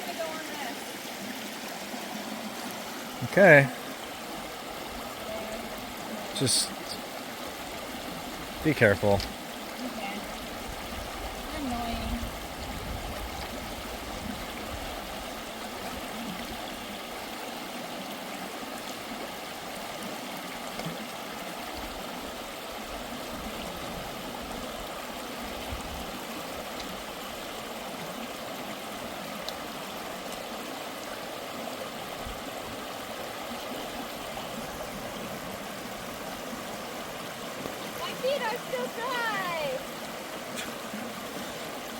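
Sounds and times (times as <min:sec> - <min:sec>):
stream flowing: 0:00.0 - 0:41.9.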